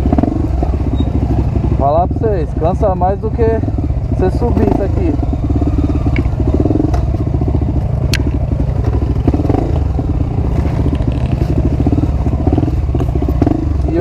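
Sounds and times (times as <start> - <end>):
motorcycle clatter: 0.0 - 14.0
motorcycle engine running: 0.0 - 14.0.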